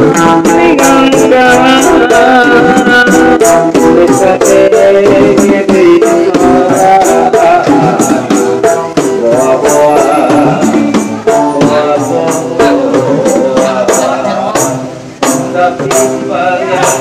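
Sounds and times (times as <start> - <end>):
acoustic guitar strumming: 0.0 - 17.0
percussion keeping the beat: 0.0 - 17.0.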